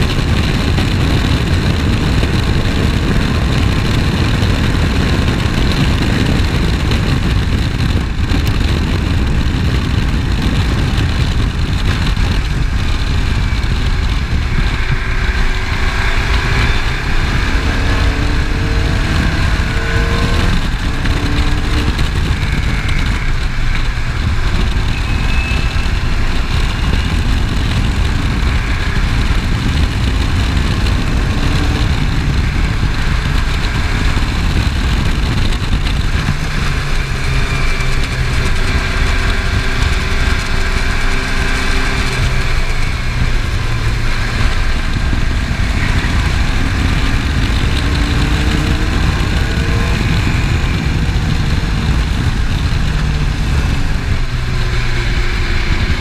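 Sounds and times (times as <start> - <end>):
low wind rumble: 0.0 - 56.0
race car engine running hard: 0.0 - 56.0.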